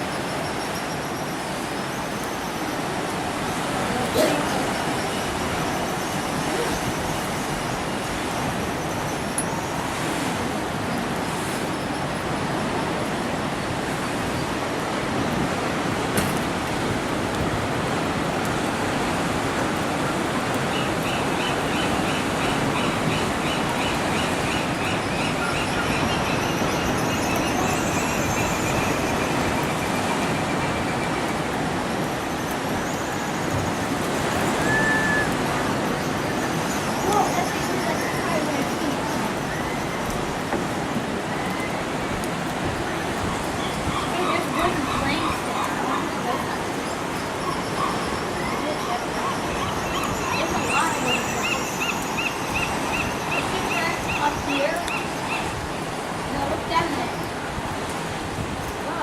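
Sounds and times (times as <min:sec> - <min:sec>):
seabirds calling: 0:00.1 - 0:15.2, 0:19.2 - 0:57.4.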